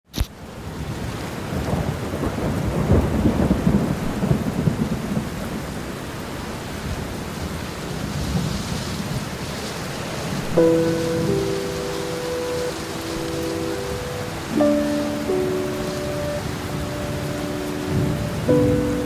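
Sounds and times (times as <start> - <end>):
steady rain: 0.1 - 19.0
thunder rumble: 0.9 - 5.9, 6.8 - 19.0.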